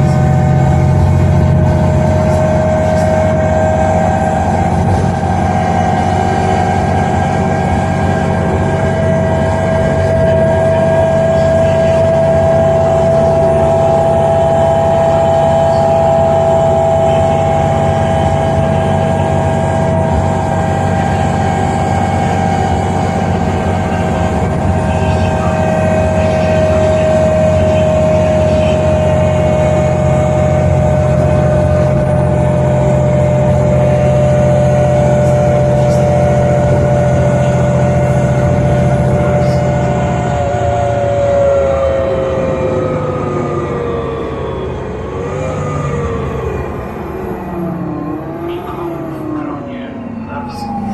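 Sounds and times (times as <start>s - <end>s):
bus engine low note: 0.0s - 50.9s
drivetrain whine: 0.0s - 50.9s.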